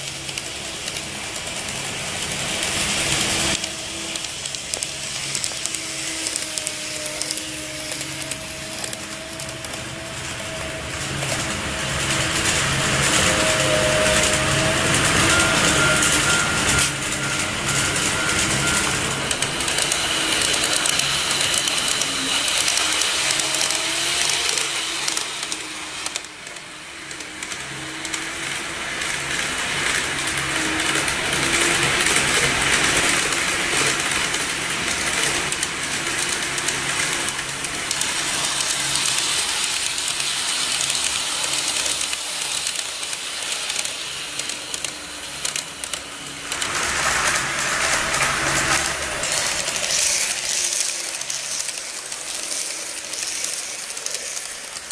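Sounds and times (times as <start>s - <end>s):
model train motor whirring: 0.0s - 54.9s
wheels rumbling on rails: 0.0s - 54.9s.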